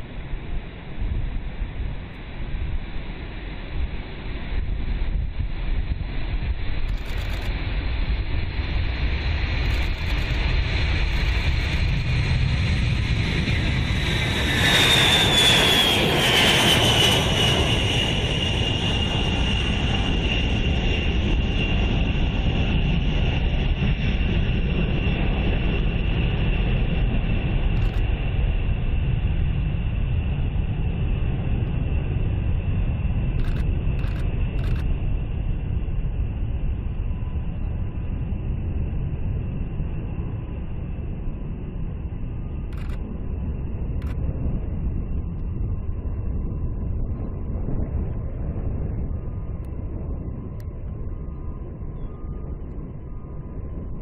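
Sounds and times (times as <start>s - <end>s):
jet aircraft turbine whine: 0.0s - 54.0s
jet engine low rumble: 0.0s - 54.0s.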